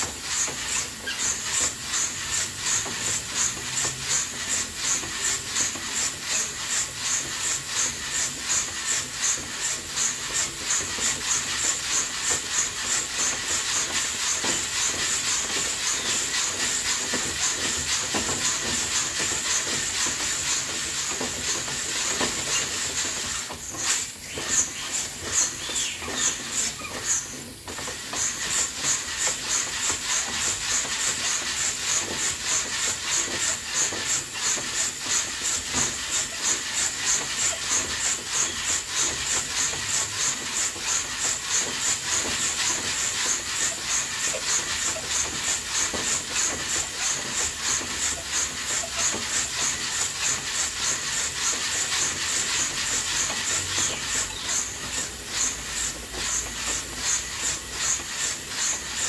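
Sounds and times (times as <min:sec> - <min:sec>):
coffee beans tumbling in roaster: 0:00.0 - 0:59.0
roaster drum turning: 0:00.0 - 0:59.0.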